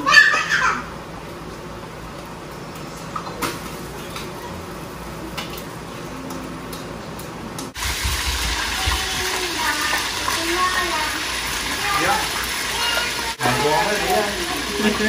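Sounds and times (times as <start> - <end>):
food frying hiss: 1.2 - 15.0.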